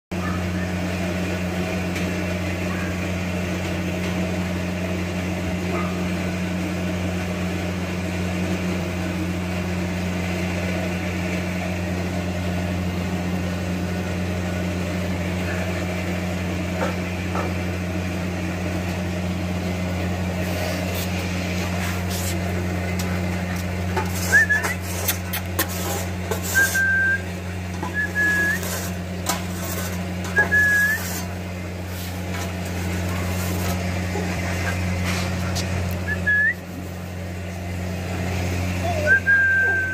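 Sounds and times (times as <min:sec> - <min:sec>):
steady low hum: 0:02.5 - 0:39.9.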